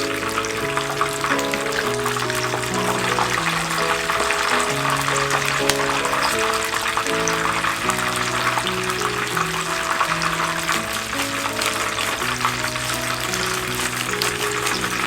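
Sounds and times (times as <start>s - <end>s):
food sizzling in hot oil: 0.0s - 15.0s
slow background music: 0.0s - 15.0s.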